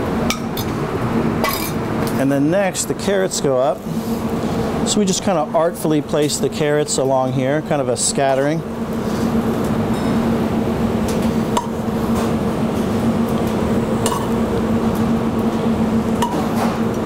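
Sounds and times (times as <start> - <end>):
kitchen hum: 0.0 - 17.0.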